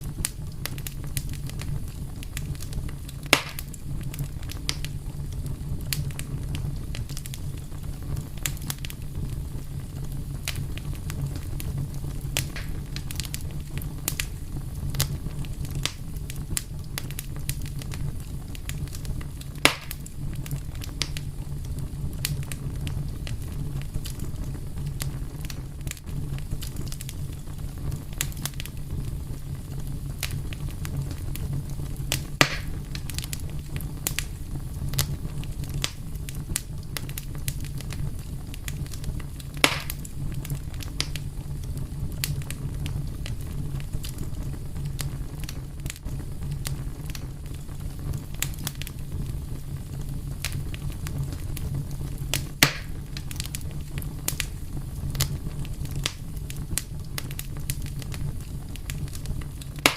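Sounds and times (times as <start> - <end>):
fire pops and snaps: 0.0 - 59.9
wood fire crackling: 0.0 - 59.9.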